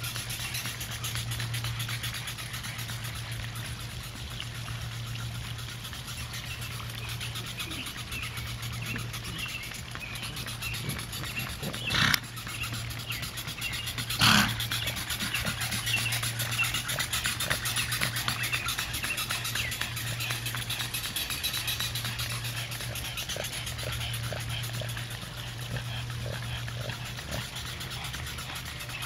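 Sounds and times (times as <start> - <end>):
hooves trotting on asphalt: 0.0 - 5.4, 6.0 - 29.0
horse snorting: 5.7 - 29.0.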